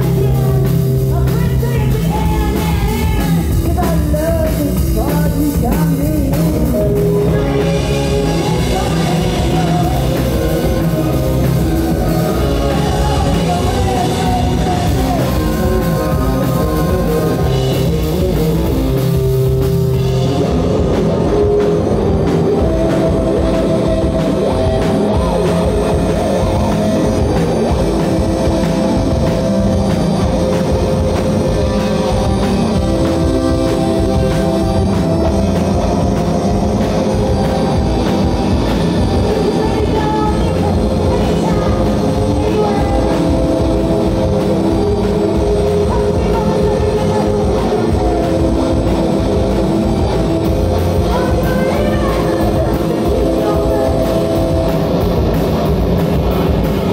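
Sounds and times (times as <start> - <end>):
woman singing: 0.0 - 20.1, 20.8 - 55.5
drums: 0.0 - 56.9
electric guitar: 0.0 - 56.9
keyboard: 0.0 - 56.9.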